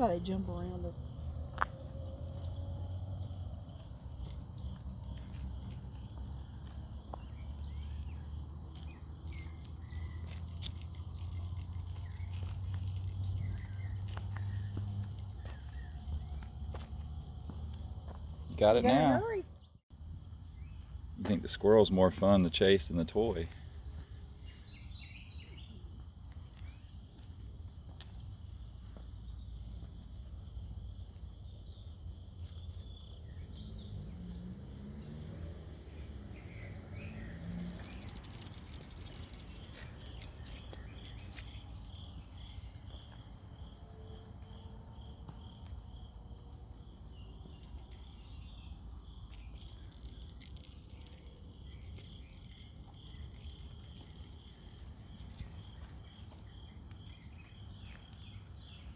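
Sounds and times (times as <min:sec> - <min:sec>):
insects trilling: 0:00.0 - 0:58.9
lower pulsing insect trill: 0:00.0 - 0:58.9.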